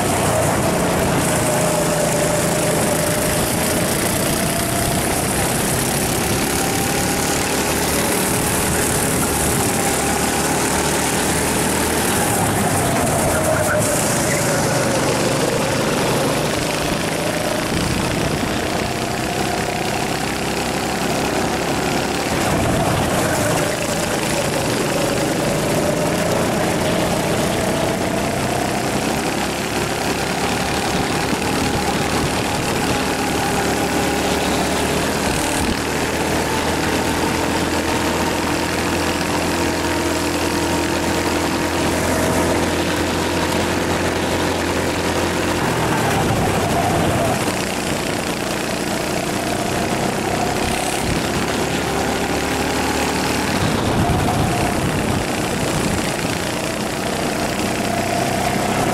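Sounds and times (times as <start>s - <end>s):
kart engine revving: 0.0s - 58.9s
wind and road noise: 0.0s - 58.9s.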